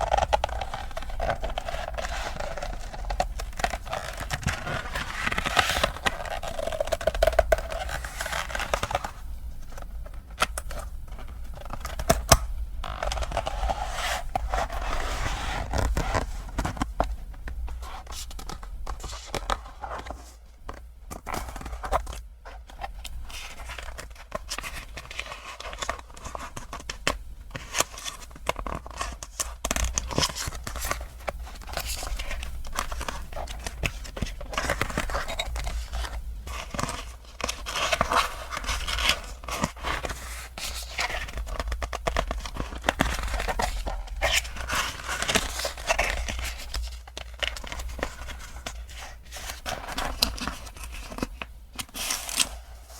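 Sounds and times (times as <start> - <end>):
packaging crinkling and tearing: 0.0 - 10.7, 11.5 - 52.9.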